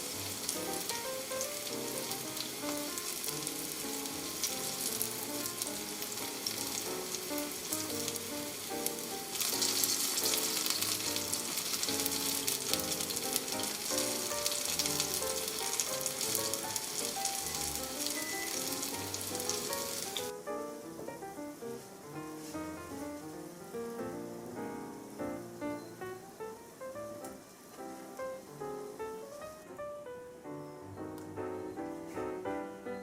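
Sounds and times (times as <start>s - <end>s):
vegetables frying in oil: 0.0s - 29.6s.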